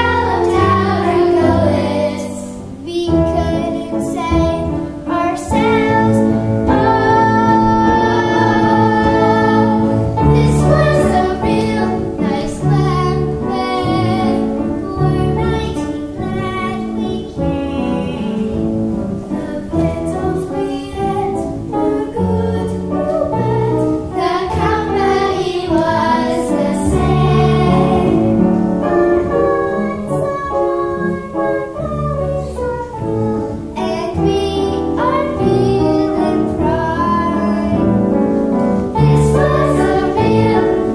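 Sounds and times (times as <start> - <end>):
girls singing together: 0.0 - 40.9
piano accompaniment: 0.0 - 40.9.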